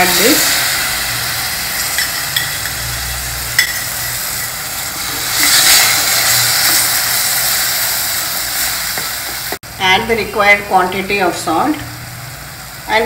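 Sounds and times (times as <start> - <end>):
masala sizzling in pot: 0.0 - 13.0.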